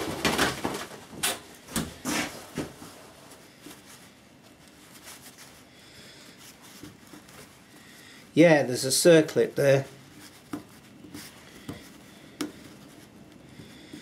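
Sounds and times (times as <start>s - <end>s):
rustling handling noises: 0.0s - 14.0s
cloth rubbing: 2.1s - 14.0s.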